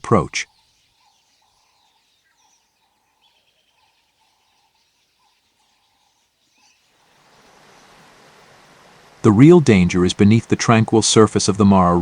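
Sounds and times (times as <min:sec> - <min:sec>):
faint bird calls: 0:00.0 - 0:12.0.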